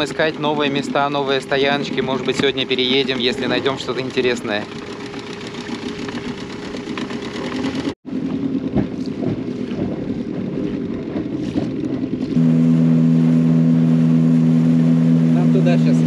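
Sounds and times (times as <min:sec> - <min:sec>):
car engine drone: 0:00.0 - 0:16.0.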